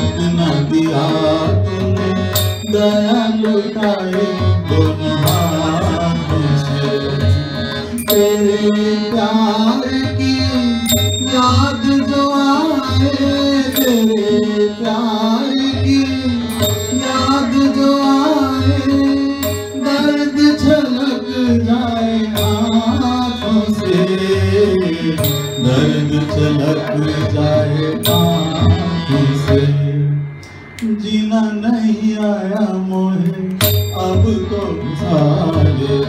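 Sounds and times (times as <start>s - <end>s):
harmonium melody: 0.0s - 36.0s
tabla rhythm: 0.0s - 36.0s.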